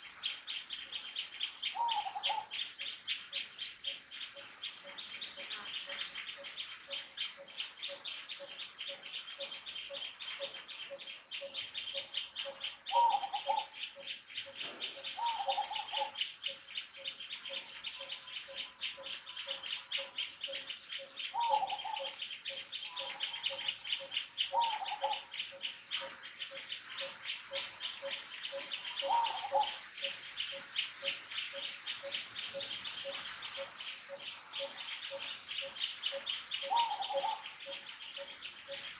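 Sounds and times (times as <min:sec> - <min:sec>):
insect-like chirring: 0:01.5 - 0:38.9.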